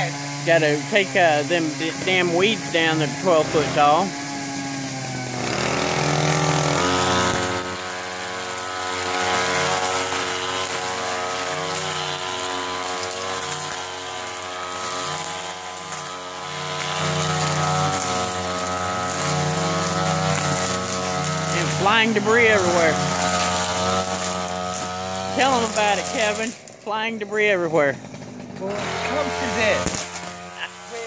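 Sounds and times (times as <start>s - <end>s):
string trimmer cutting weeds: 0.0s - 31.0s.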